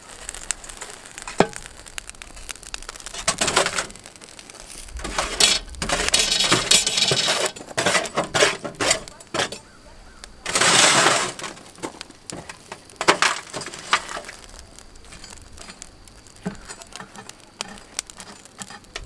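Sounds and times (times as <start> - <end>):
charcoal briquettes clinking: 0.0 - 19.0.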